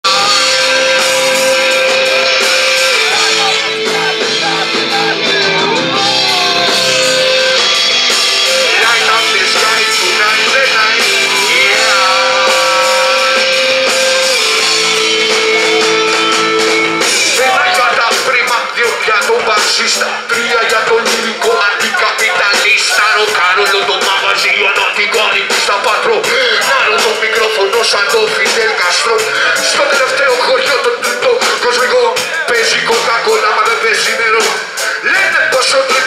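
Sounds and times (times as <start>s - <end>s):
guitar: 0.0s - 36.0s
hip-hop band playing: 0.0s - 36.0s
person singing: 0.0s - 36.0s.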